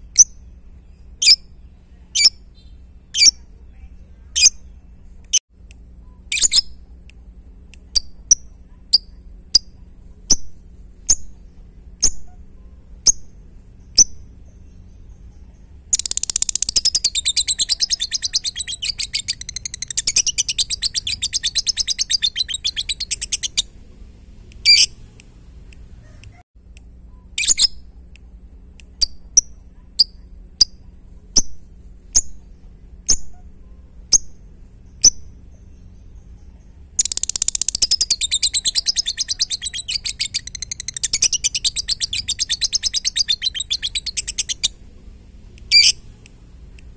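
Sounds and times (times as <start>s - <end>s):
lovebird chirping: 0.0s - 5.4s, 6.0s - 7.1s, 7.7s - 26.4s, 27.1s - 28.0s, 28.9s - 46.9s
lovebird rapid chatter: 0.0s - 5.4s, 6.2s - 26.4s, 27.4s - 46.9s.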